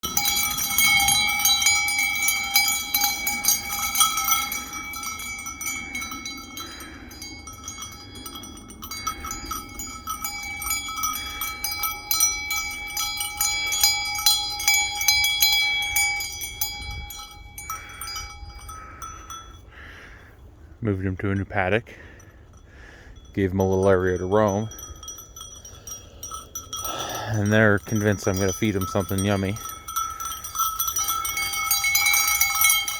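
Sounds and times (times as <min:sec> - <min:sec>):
metal bells ringing: 0:00.0 - 0:19.7, 0:21.2 - 0:32.9.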